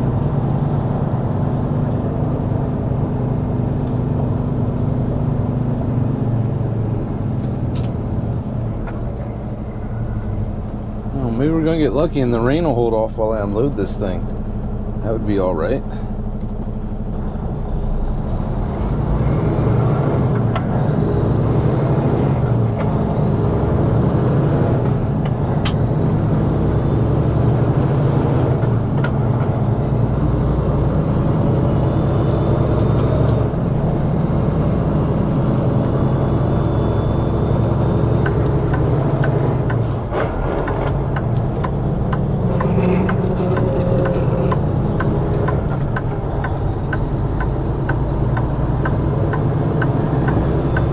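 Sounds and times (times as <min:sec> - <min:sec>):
road noise: 0:00.0 - 0:50.9
truck diesel engine running: 0:00.0 - 0:50.9.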